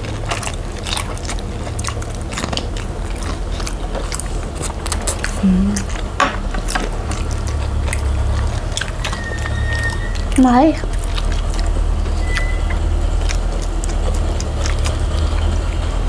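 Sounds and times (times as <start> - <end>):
chewing and biting food: 0.0 - 16.0
steady low hum: 0.0 - 16.0
wet mouth clicks: 1.3 - 15.8.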